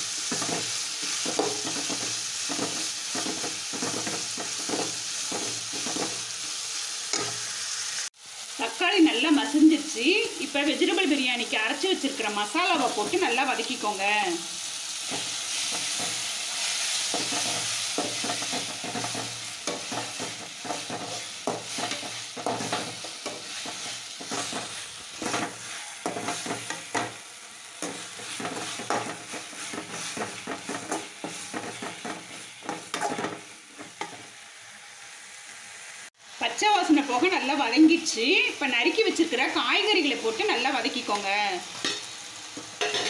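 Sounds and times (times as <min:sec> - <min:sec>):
food sizzling in a metal pan: 0:00.0 - 0:43.0.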